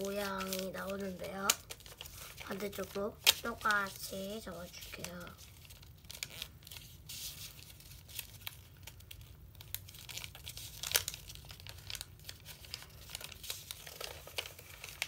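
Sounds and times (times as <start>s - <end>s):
paper crackle: 0.0s - 15.0s
paper crinkling and rustling: 0.0s - 15.0s.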